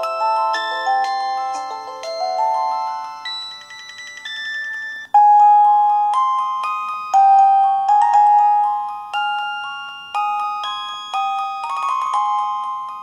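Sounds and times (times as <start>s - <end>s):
phone ringtone chiming melody: 0.0s - 13.0s.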